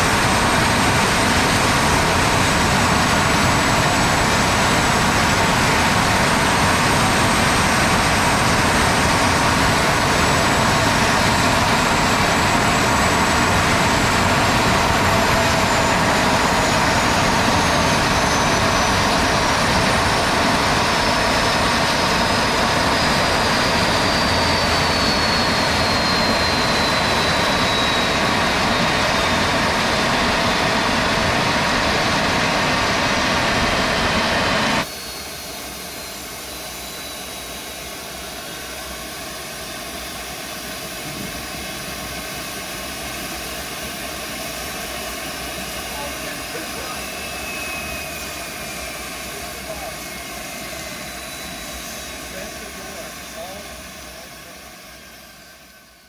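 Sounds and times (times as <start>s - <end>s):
furnace roaring: 0.0s - 56.0s
high whine: 0.0s - 56.0s.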